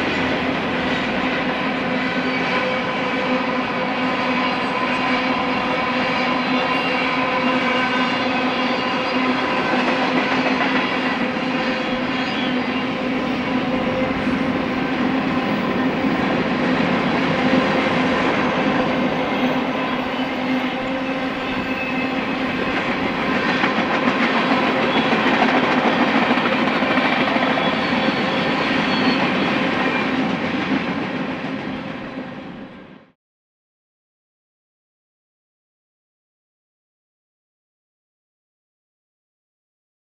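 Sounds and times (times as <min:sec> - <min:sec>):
freight train wheels rumbling: 0:00.0 - 0:33.1.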